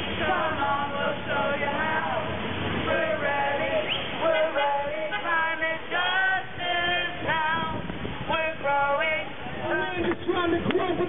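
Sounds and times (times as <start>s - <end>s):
group singing a chant: 0.0s - 10.2s.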